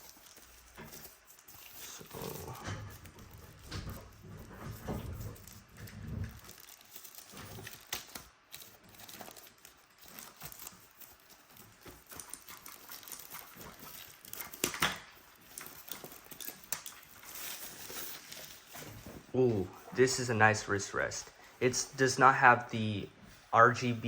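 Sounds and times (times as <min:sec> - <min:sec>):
packaging rustling: 0:00.0 - 0:21.7.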